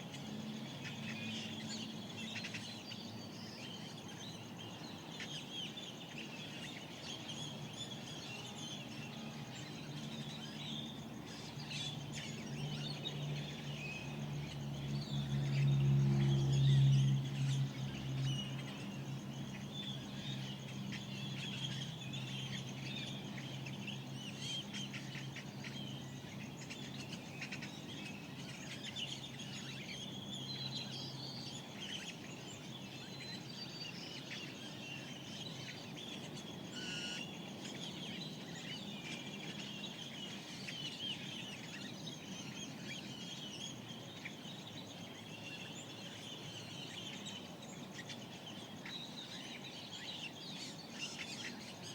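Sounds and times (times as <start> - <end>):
birds chirping and twittering: 0.0 - 51.9.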